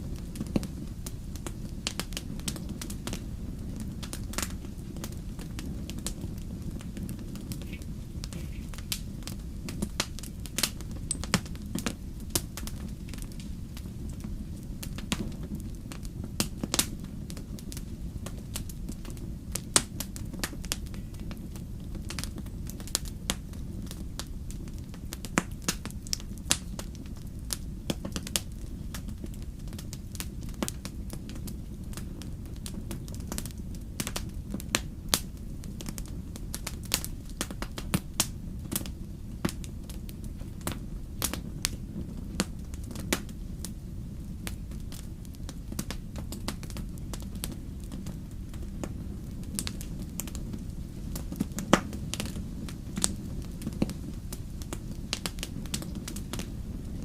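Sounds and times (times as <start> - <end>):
fire crackling and popping: 0.0 - 57.0
low rumble of fire: 0.0 - 57.0.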